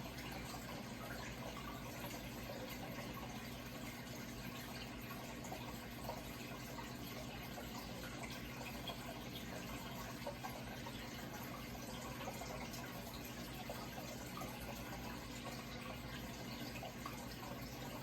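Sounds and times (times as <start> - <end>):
low steady hum: 0.0 - 18.0
trickling water with splashes: 0.0 - 18.0.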